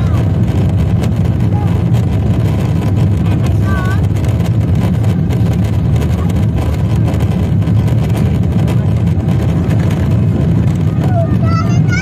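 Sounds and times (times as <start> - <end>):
low rumble inside jet cabin: 0.0 - 12.0.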